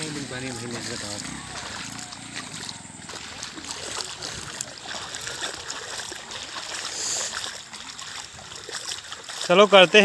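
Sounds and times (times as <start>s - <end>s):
shallow water trickling and splashing: 0.0s - 10.0s.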